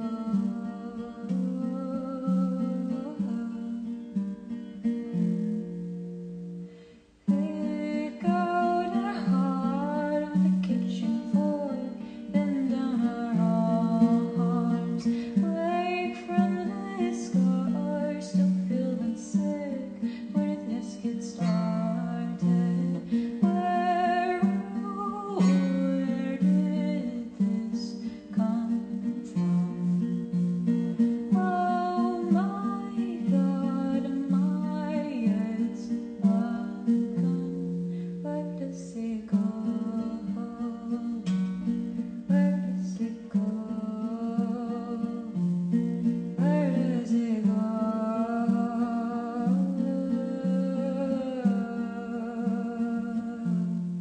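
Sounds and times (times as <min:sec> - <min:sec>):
person singing: 0:00.0 - 0:04.0, 0:07.3 - 0:30.1, 0:30.9 - 0:54.0
acoustic guitar: 0:00.0 - 0:54.0.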